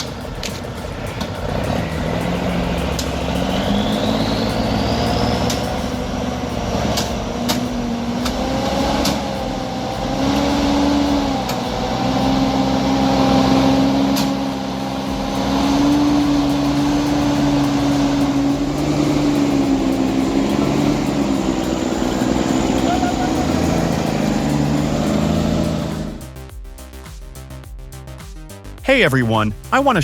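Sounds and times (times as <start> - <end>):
diesel truck engine under load: 0.0 - 26.2
sharp ticks: 0.0 - 28.6.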